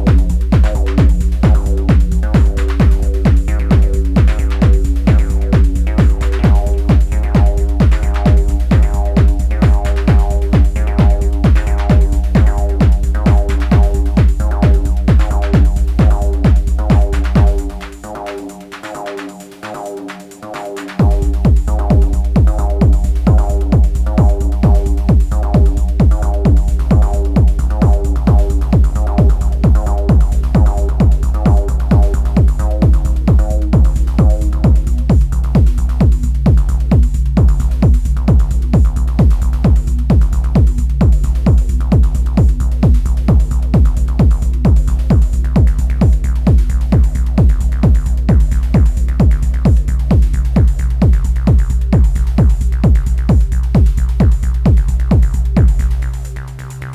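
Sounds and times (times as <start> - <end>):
held low tones: 0.0 - 18.5, 21.0 - 56.9
pounding kick drum: 0.0 - 19.9, 20.6 - 56.9
bass: 0.0 - 56.9.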